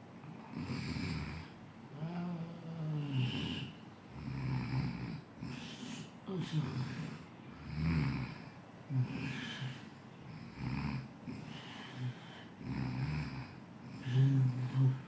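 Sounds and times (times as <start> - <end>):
person snoring: 0.5 - 15.0.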